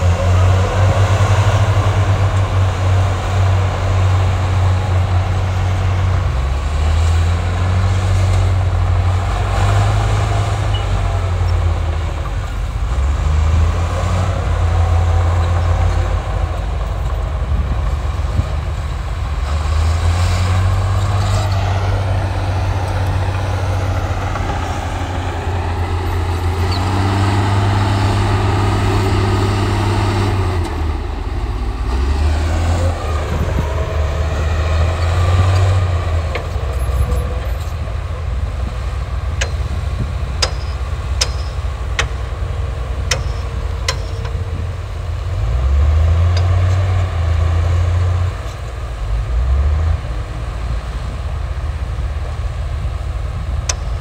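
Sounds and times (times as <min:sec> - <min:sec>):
heavy diesel engines droning: 0:00.0 - 0:54.0.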